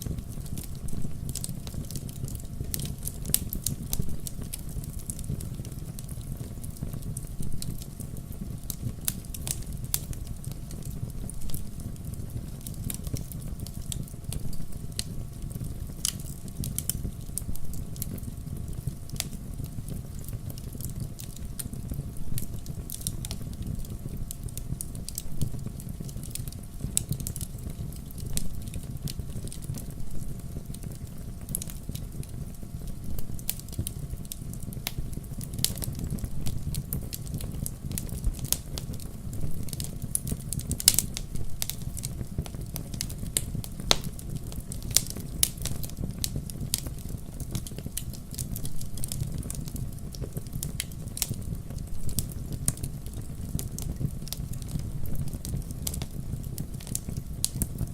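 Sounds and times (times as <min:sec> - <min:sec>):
flames rumbling: 0:00.0 - 0:57.9
wood fire popping and snapping: 0:00.0 - 0:57.9.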